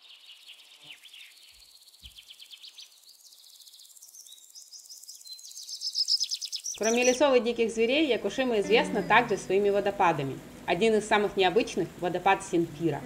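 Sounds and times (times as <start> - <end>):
birds chirping and trilling: 0.0 - 12.9.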